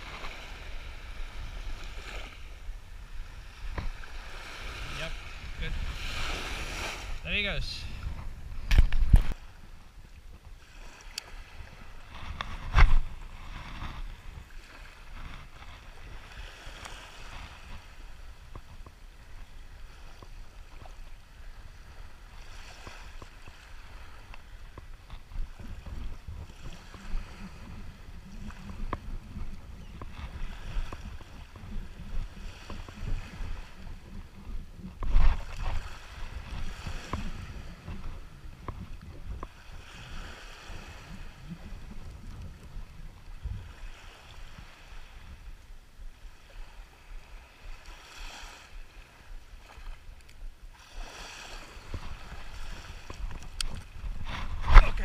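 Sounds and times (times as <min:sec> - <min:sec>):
small waves washing on shore: 0:00.0 - 0:55.0
wind rumbling on microphone: 0:00.0 - 0:55.0.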